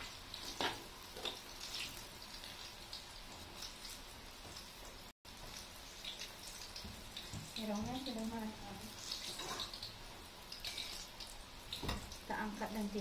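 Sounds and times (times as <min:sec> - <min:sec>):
deep-frying sizzle in oil: 0:00.0 - 0:13.0
oil popping and crackling: 0:00.0 - 0:13.0.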